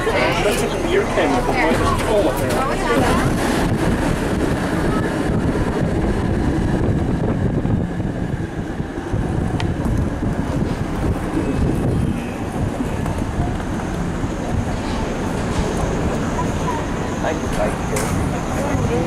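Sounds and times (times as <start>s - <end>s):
streetcar wheels rumbling on rails: 0.0s - 19.0s.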